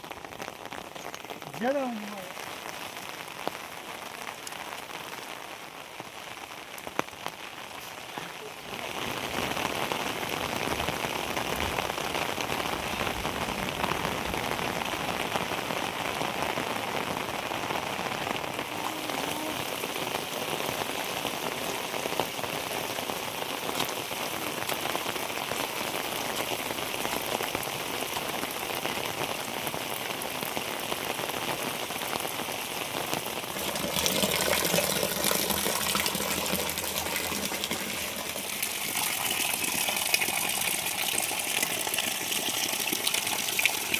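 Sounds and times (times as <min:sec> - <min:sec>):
heavy rain: 0:00.0 - 0:43.9
rush of water: 0:00.0 - 0:43.9.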